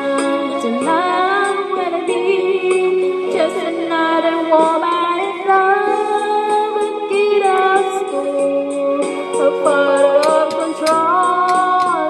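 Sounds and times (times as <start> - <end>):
backing track: 0.0 - 12.0
woman singing into microphone: 0.0 - 12.0.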